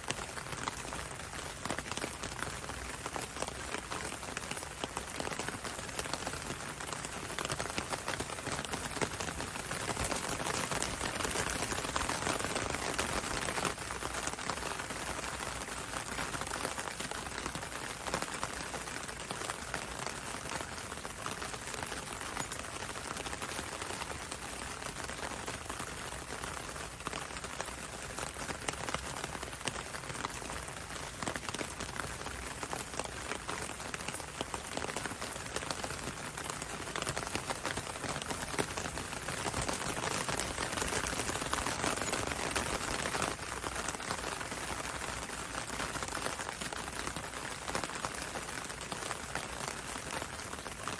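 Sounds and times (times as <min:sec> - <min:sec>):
rain pattering on window and road: 0:00.0 - 0:50.9.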